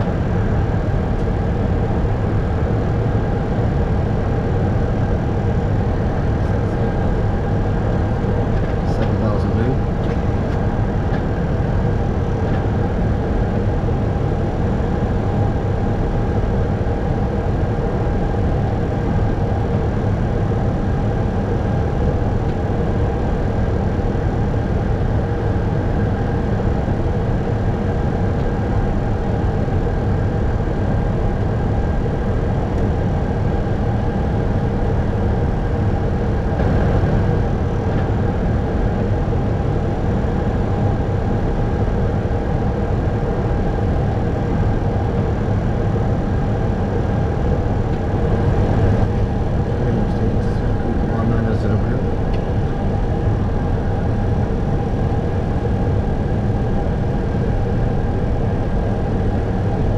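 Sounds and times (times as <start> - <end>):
airflow and engine rush: 0.0 - 59.9
steady humming tones: 0.0 - 59.9.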